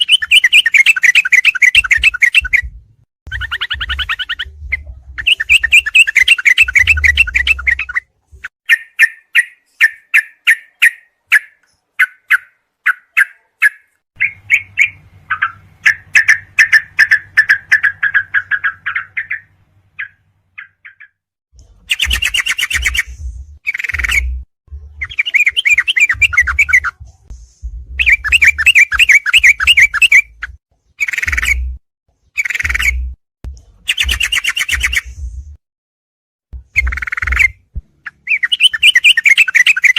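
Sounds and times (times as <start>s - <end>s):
bulbul singing: 0.0s - 27.0s, 28.0s - 31.8s, 32.4s - 35.3s, 36.6s - 39.9s.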